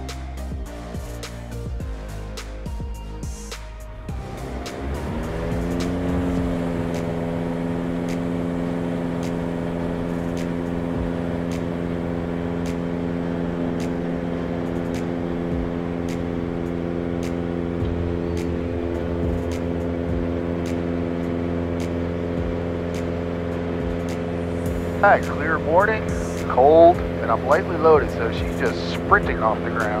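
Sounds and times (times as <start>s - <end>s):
aircraft engine and propeller drone: 0.0s - 30.0s.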